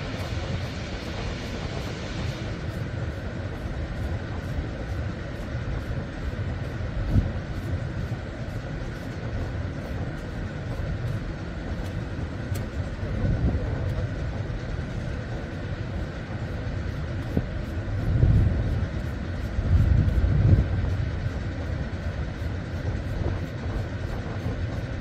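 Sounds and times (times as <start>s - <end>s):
ship machinery drone: 0.0s - 25.0s.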